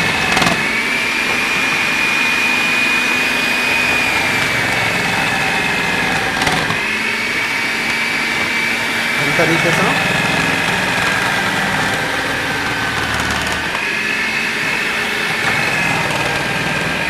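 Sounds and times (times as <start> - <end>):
food processor grating carrots: 0.0 - 17.0.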